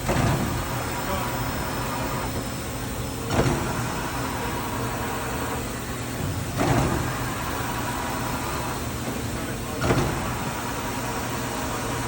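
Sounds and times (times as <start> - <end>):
machining center humming: 0.0 - 12.0.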